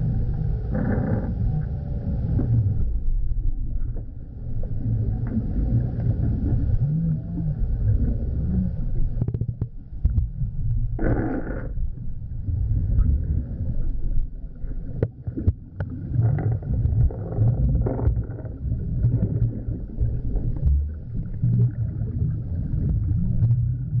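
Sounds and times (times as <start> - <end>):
muffled underwater water rumble: 0.0 - 24.0.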